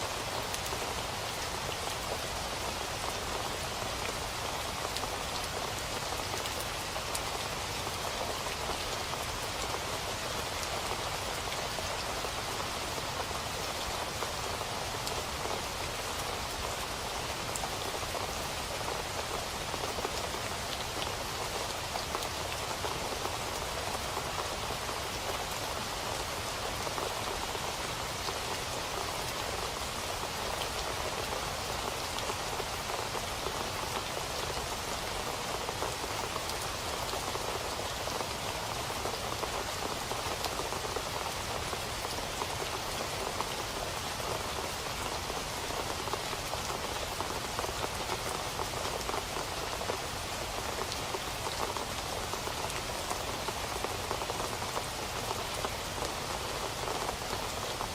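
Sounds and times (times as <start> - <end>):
steady rain on a surface: 0.0 - 57.9.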